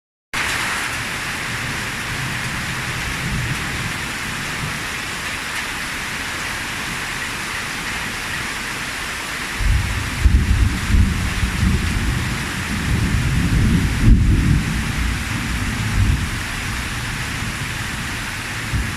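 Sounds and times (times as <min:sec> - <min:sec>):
heavy rain falling: 0:00.4 - 0:18.9.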